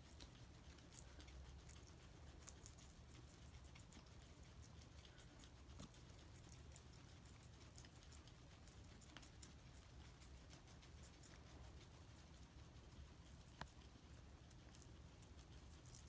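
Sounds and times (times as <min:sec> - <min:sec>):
guinea pigs chewing: 0:00.0 - 0:16.0
low steady hum: 0:00.0 - 0:16.0.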